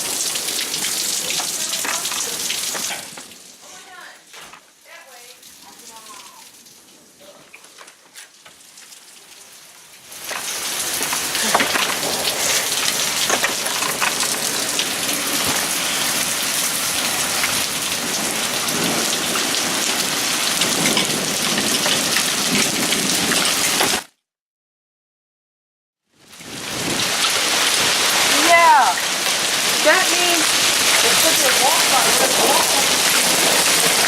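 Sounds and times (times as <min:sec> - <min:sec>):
heavy rain and hail pelting: 0:00.0 - 0:24.1, 0:26.2 - 0:34.0
scattered raindrops: 0:00.0 - 0:24.1, 0:26.2 - 0:34.0.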